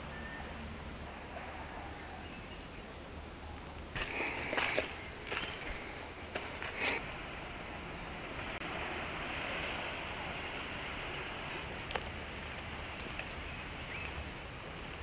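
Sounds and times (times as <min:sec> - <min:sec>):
hiss of wind leaves or insects: 0:00.0 - 0:15.0.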